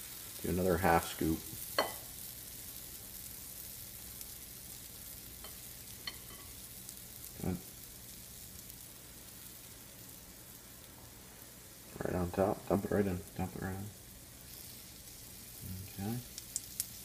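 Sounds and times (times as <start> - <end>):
batter sizzling: 0.0 - 17.0.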